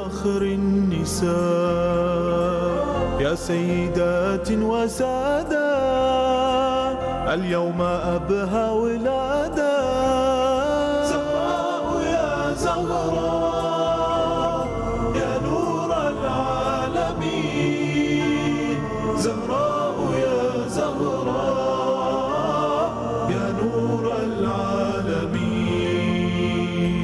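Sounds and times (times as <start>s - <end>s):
voices singing in chorus: 0.0s - 27.0s.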